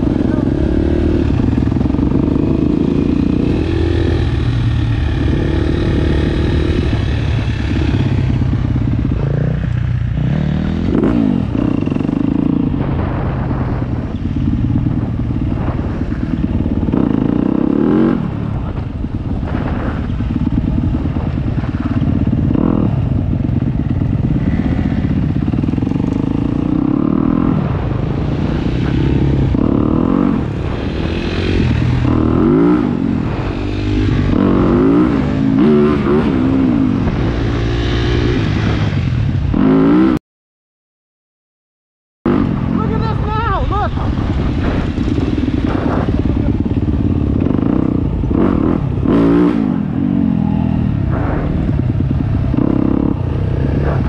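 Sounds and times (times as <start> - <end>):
dirt bike engines revving: 0.0 - 40.2, 42.3 - 54.0.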